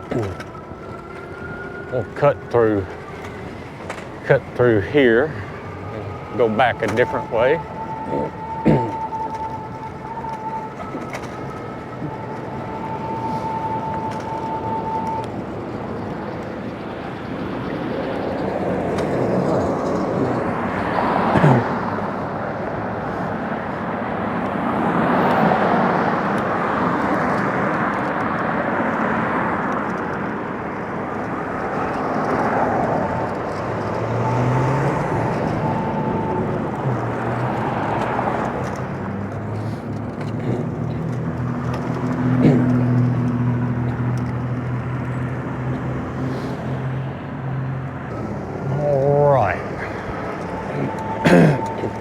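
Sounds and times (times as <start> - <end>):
cars passing: 0.0 - 52.0.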